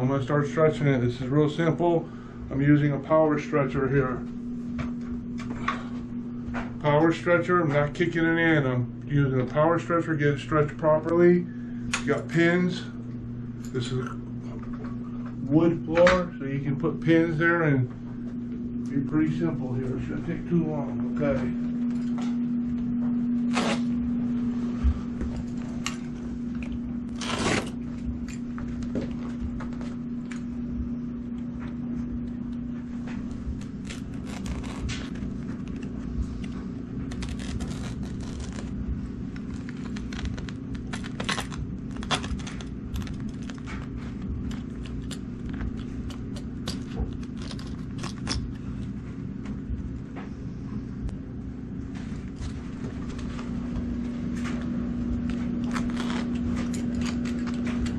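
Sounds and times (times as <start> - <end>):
steady hum: 0.0 - 57.9.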